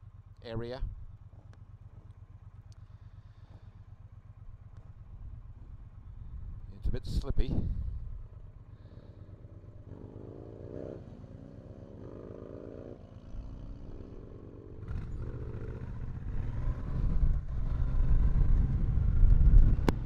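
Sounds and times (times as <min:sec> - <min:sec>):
motorcycle engine accelerating: 0:00.9 - 0:20.0.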